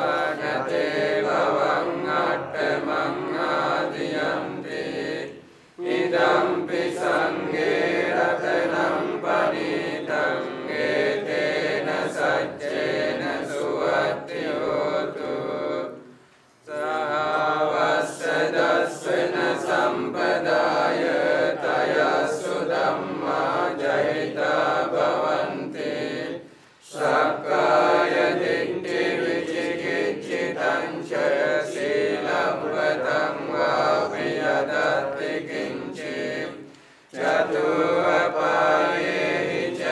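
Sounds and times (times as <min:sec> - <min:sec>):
monks chanting together: 0:00.0 - 0:39.9.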